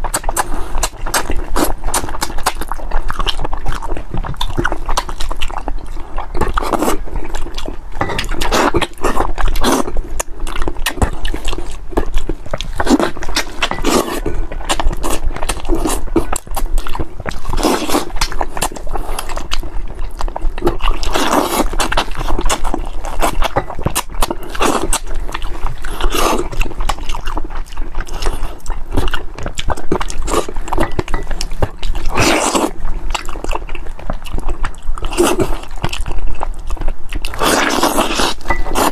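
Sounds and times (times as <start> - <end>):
person chewing and sucking: 0.0 - 38.9.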